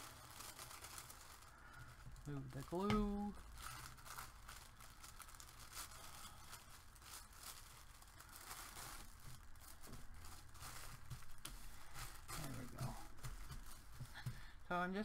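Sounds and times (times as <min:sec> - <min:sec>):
tissue paper rustling: 0:00.0 - 0:14.3.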